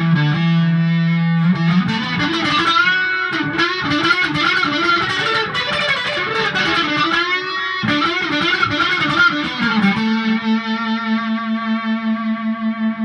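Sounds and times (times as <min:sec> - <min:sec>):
electric guitar lead phrases: 0:00.0 - 0:13.0.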